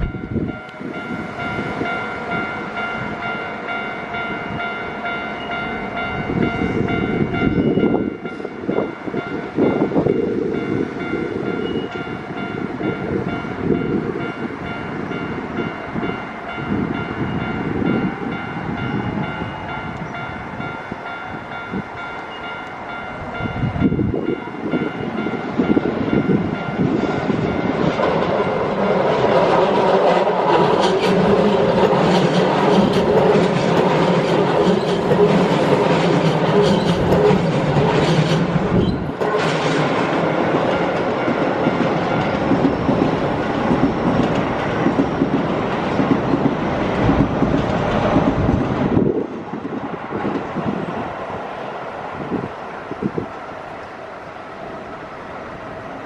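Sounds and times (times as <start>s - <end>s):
level crossing warning bell: 0.0s - 45.0s
electric train approaching: 0.0s - 56.0s.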